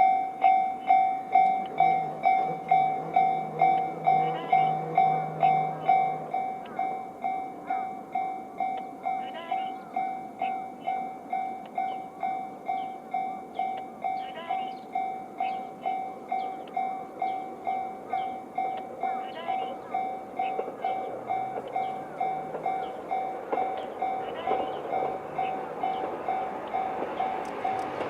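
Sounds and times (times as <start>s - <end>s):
level crossing warning bell: 0.0s - 28.0s.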